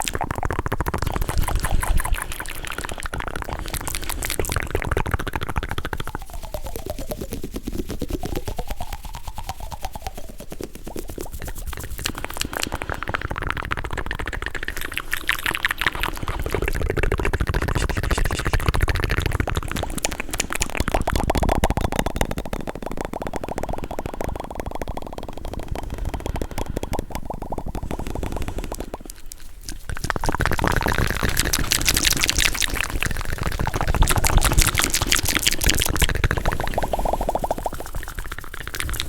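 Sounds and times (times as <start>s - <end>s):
rapid clicks and taps: 0.0s - 39.0s.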